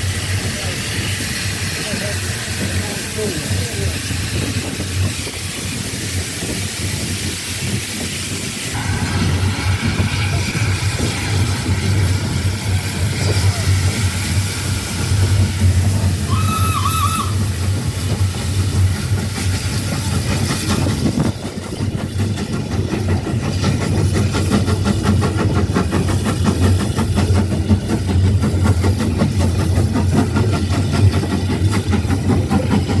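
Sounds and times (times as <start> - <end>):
low rumble of train: 0.0 - 33.0
steam engine exhaust beating: 0.0 - 33.0
steam hissing: 0.0 - 33.0.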